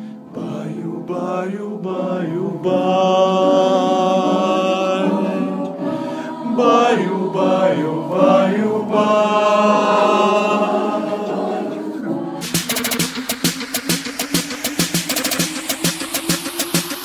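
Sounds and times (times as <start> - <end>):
group singing in harmony: 0.0 - 17.0.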